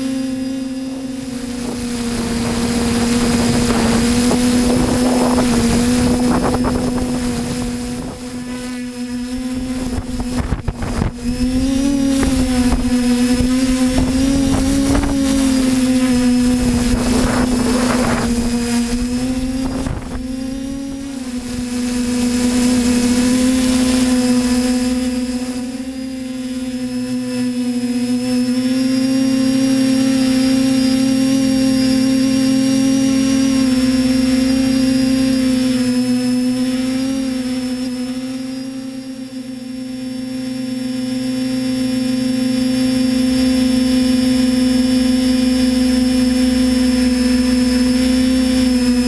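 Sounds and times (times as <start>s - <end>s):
steady engine drone: 0.0s - 49.0s.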